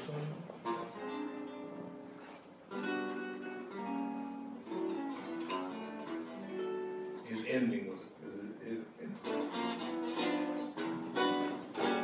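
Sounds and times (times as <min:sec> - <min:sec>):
jazz guitar strumming chords: 0:00.0 - 0:12.0.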